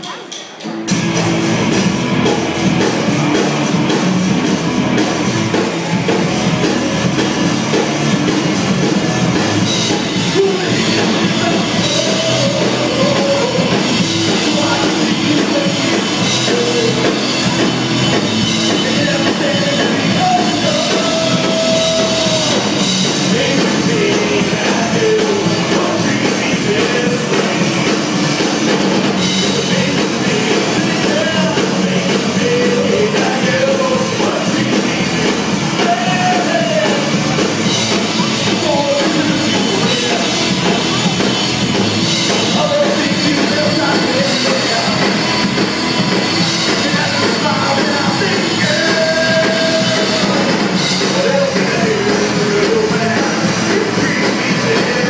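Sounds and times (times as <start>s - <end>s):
drum kit: 0.0s - 55.0s
electric guitars: 0.6s - 55.0s.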